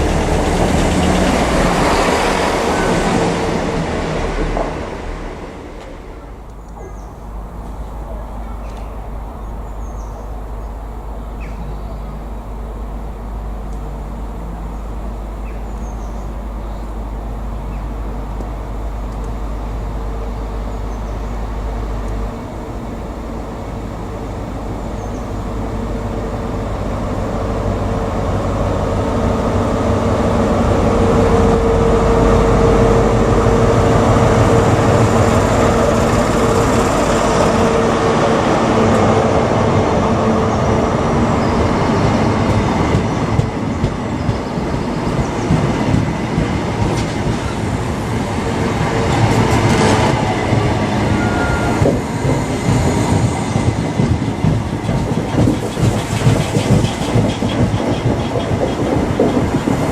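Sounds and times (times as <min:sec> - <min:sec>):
diesel train approaching: 0:00.0 - 0:59.9.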